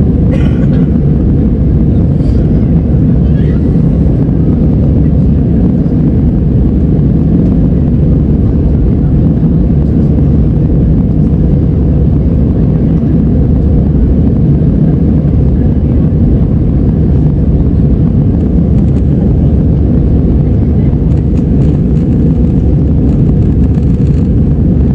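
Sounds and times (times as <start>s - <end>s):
airliner cabin engine rumble: 0.0s - 24.9s.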